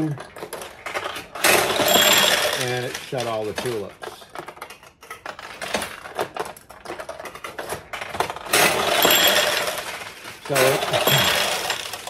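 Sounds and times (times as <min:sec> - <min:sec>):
dense clatter of balls: 0:00.0 - 0:12.0
pachinko balls clicking and rattling: 0:00.0 - 0:12.0.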